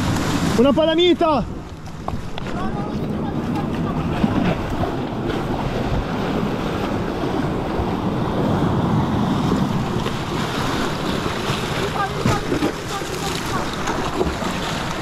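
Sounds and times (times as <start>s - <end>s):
surf washing over rocks: 0.0s - 15.0s
wind buffeting microphone: 0.0s - 15.0s.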